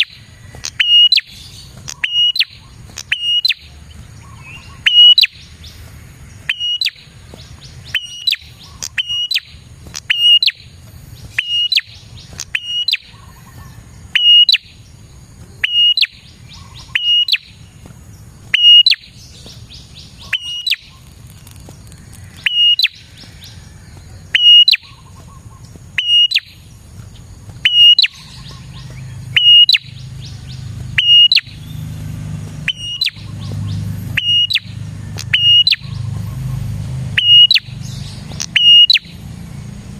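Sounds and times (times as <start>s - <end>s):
bird rattling trills: 0.0s - 39.5s
bird chirping: 0.0s - 39.9s.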